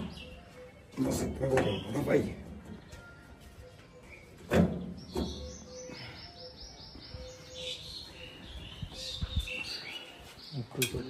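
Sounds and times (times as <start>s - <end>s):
bird chirping high notes: 0.0s - 10.6s.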